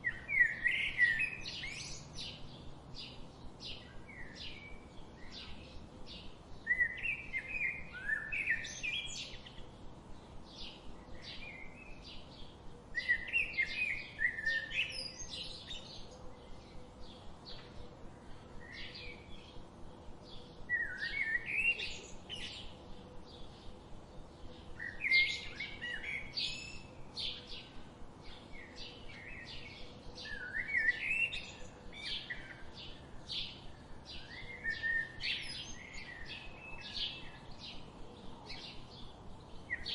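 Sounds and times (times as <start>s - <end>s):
songbird warbling song: 0.0s - 39.9s.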